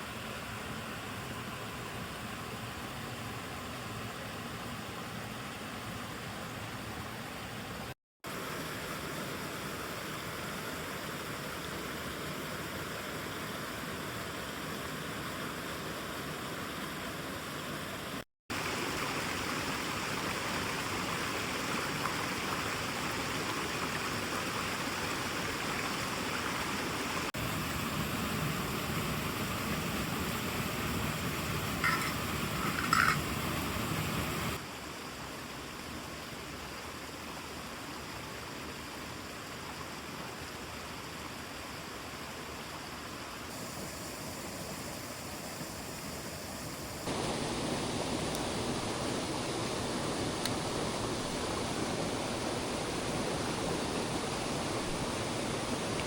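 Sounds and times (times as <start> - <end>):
stream rushing over rocks: 0.2 - 56.0.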